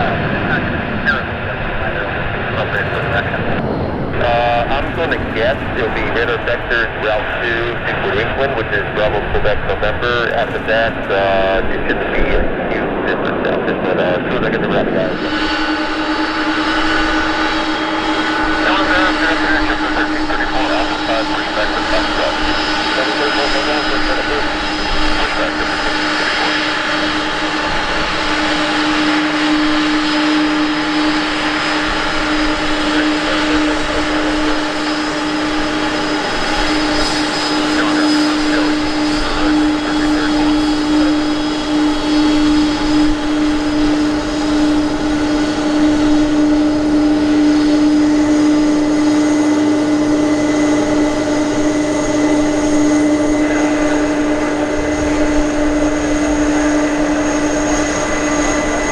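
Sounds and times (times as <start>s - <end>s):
aircraft engine drone: 0.0s - 58.9s.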